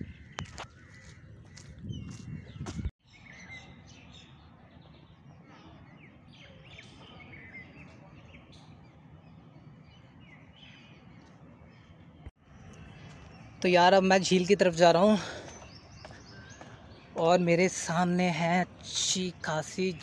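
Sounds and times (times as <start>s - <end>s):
birds chirping: 0.0s - 20.0s
faint outdoor background noise: 0.0s - 20.0s.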